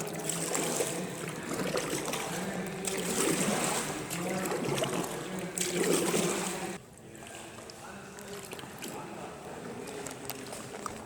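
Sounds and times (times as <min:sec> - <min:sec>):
paddles dipping and dripping: 0:00.0 - 0:11.0
water trickling and splashing: 0:00.0 - 0:11.0.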